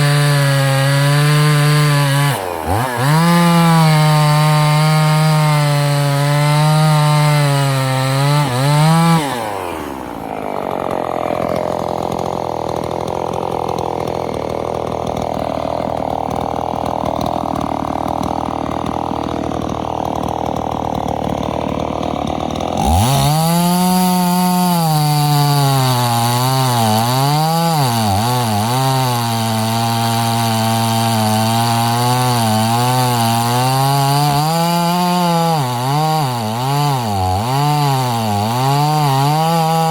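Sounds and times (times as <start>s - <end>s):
two-stroke chainsaw revving: 0.0s - 39.9s.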